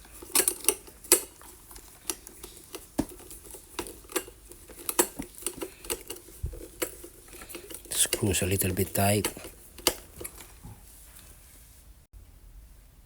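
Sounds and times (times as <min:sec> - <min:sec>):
screwdriver clicking on metal: 0:00.0 - 0:10.5.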